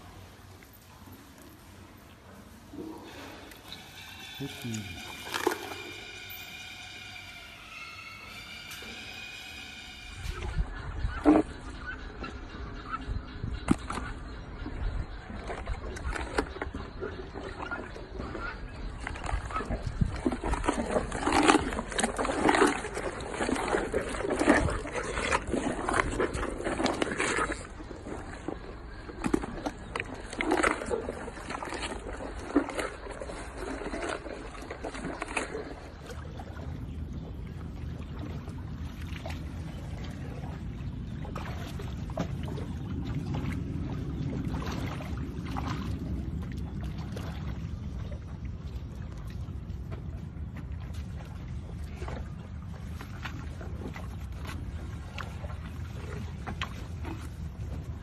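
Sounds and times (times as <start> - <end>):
hippopotamus wet mouth noises: 0.0 - 58.0.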